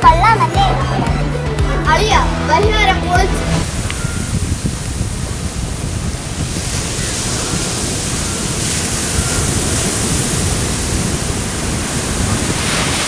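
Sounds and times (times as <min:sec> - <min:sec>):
sea waves: 0:00.0 - 0:13.0
wind buffeting microphone: 0:00.0 - 0:13.0
wind rushing: 0:00.0 - 0:13.0.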